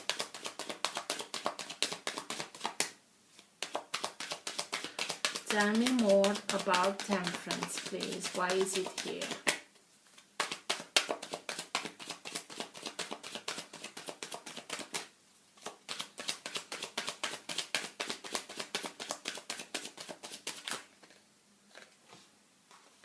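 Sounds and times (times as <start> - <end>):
cards being shuffled: 0.0 - 21.9.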